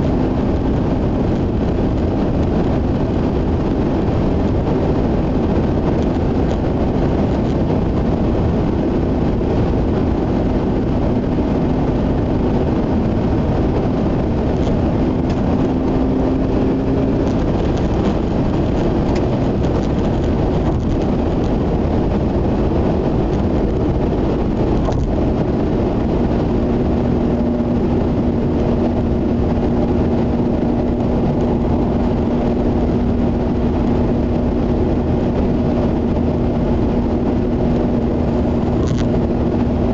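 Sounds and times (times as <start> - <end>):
low engine hum: 0.0 - 39.9
tyre and road noise: 0.0 - 39.9.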